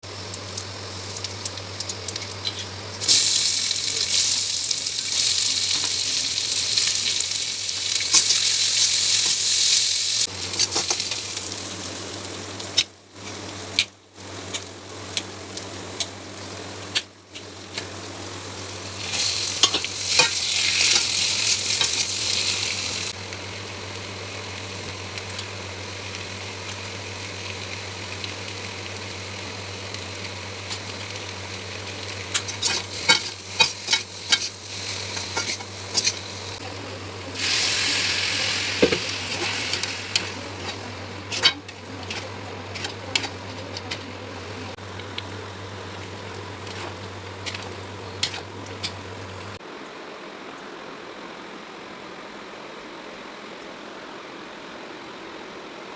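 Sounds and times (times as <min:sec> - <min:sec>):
food sizzling in hot oil: 0:00.0 - 0:49.6.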